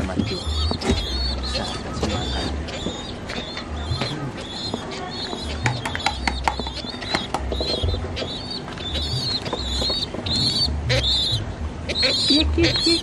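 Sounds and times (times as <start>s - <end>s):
pigeon squabs squeaking: 0.0s - 13.0s.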